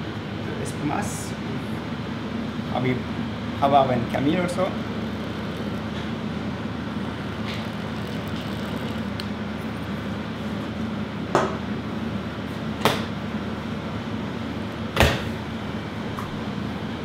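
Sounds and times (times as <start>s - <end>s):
kitchen machinery humming: 0.0s - 17.0s.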